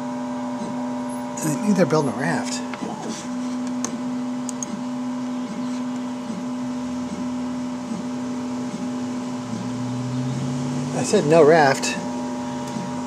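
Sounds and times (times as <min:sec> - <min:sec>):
printer motor whine: 0:00.0 - 0:13.0.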